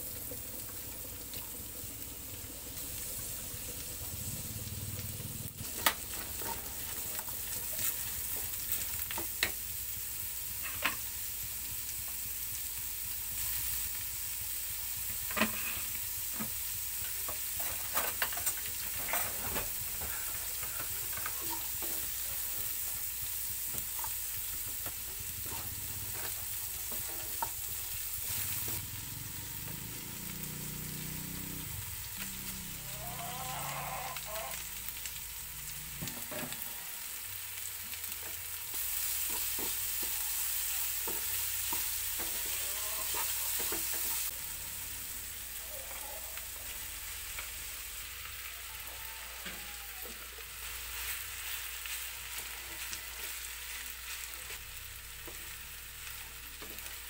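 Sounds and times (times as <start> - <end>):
food sizzling in frying pan: 0.0 - 57.0.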